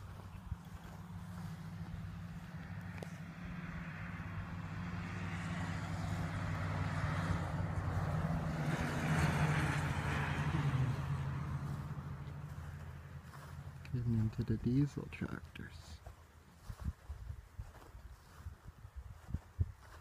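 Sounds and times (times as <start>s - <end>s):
vehicle engine droning: 0.0s - 16.8s.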